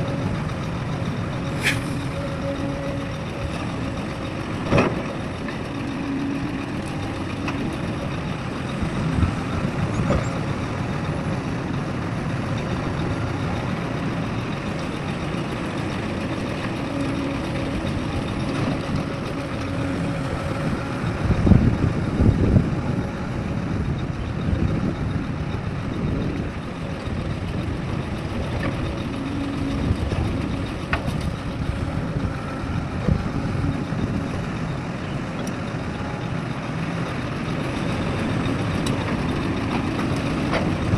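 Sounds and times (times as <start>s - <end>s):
heavy diesel machinery rumble: 0.0s - 40.9s.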